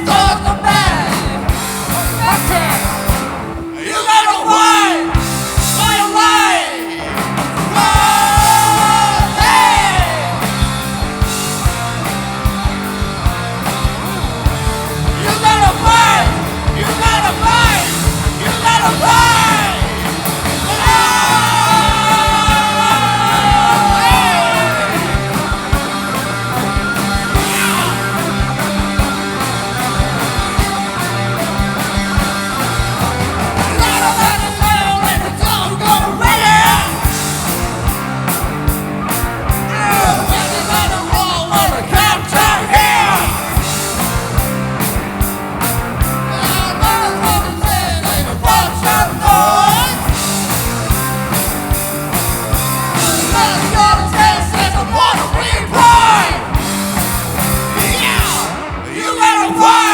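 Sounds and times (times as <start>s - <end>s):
lead vocalist singing and shouting: 0.0s - 11.6s, 14.5s - 38.5s, 39.1s - 45.0s, 46.0s - 59.9s
live rock band playing: 0.0s - 59.9s.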